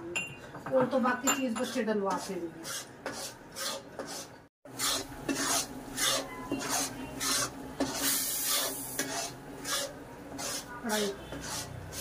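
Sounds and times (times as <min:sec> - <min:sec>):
metal spatula scraping pan: 0:01.4 - 0:12.0.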